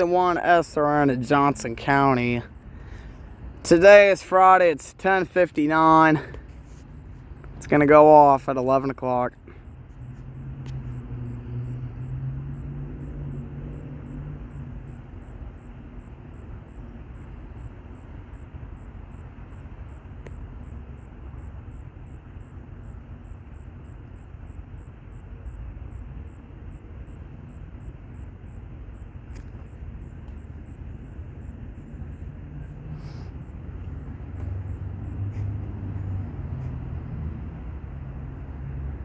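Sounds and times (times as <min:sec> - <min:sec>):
low outdoor rumble: 0:00.0 - 0:39.0
vehicle engine hum: 0:00.0 - 0:39.0.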